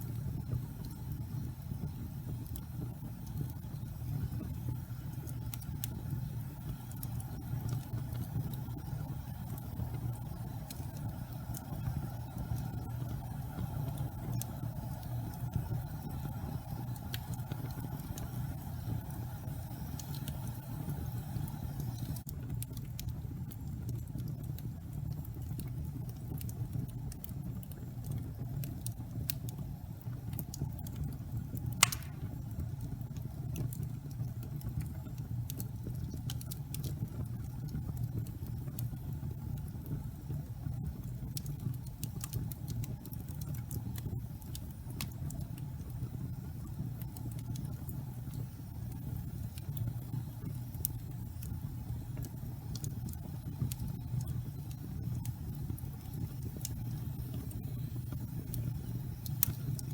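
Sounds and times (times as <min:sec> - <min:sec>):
fire popping: 0:00.0 - 0:59.9
wood fire crackling: 0:00.0 - 0:59.9.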